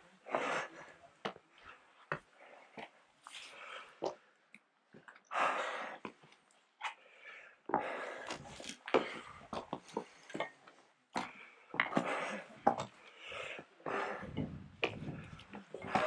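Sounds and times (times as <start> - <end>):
person breathing hard: 0.3 - 4.1, 5.3 - 6.2, 6.8 - 10.5, 11.2 - 16.0.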